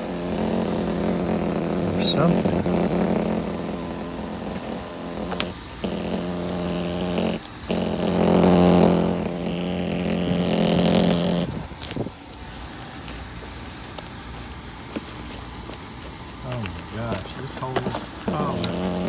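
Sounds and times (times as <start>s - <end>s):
loose tape buzzing: 0.0s - 19.0s.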